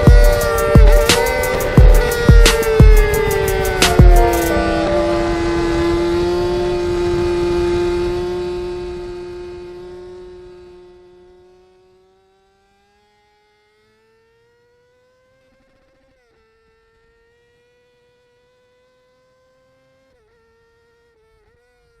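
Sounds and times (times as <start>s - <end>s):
faint motorcycle engine whine: 0.0s - 22.0s.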